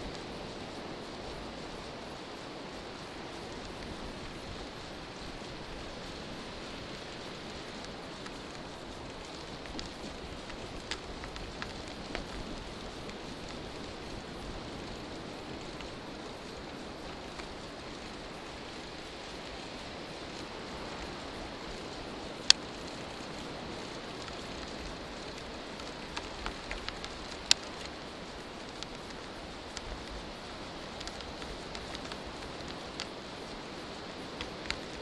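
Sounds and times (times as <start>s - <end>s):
bicycle tyres rolling on sand: 0.0s - 35.0s
wind: 0.0s - 35.0s.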